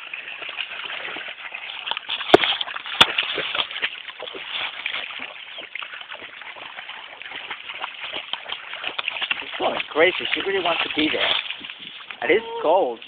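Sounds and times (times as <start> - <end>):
shallow water sloshing: 0.0 - 13.0.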